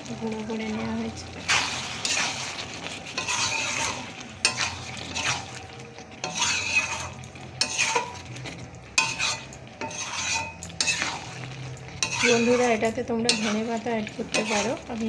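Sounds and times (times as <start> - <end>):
light sizzle of cooking: 0.0 - 15.0
spatula scraping a pan: 1.3 - 15.0.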